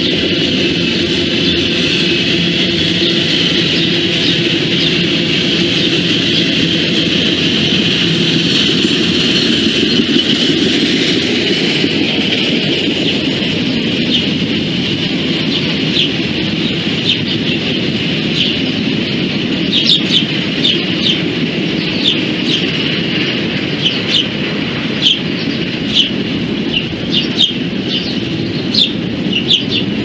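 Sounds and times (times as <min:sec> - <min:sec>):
birds chirping: 0:00.0 - 0:30.0
train rumbling past: 0:00.0 - 0:30.0.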